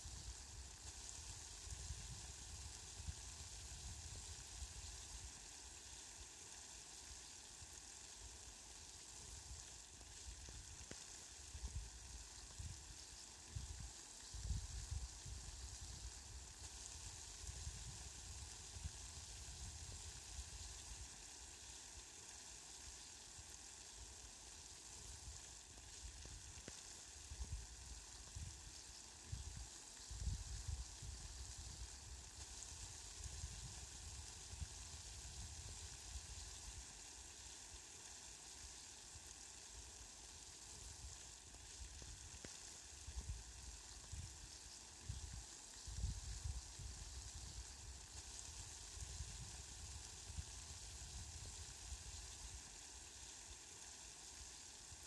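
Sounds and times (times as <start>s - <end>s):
water drops hissing on leaves: 0.0s - 55.0s.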